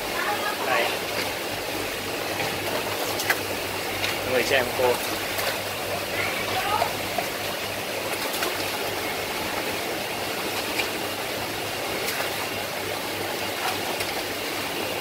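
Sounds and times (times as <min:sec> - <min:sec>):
aerated water bubbling: 0:00.0 - 0:15.0.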